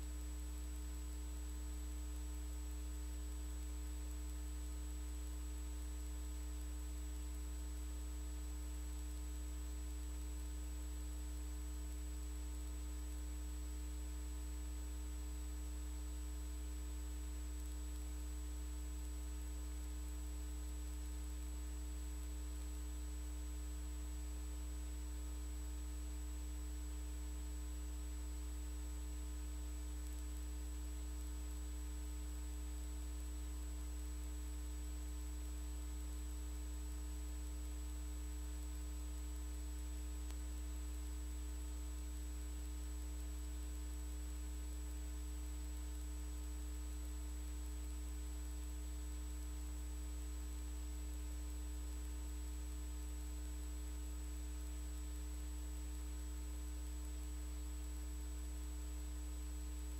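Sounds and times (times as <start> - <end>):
low mains hum: 0.0 - 59.9.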